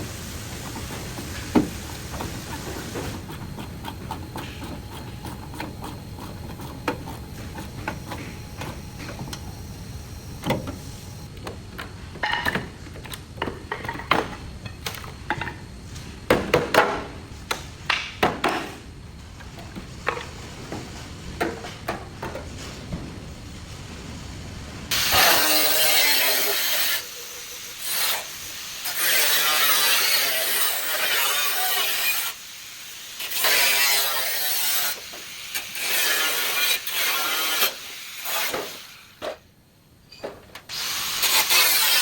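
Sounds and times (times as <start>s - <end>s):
low workshop hum: 0.0s - 42.0s.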